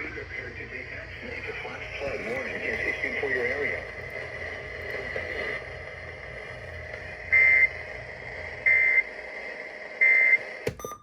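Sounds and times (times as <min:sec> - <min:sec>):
radio receiver hiss and hum: 0:00.0 - 0:10.8.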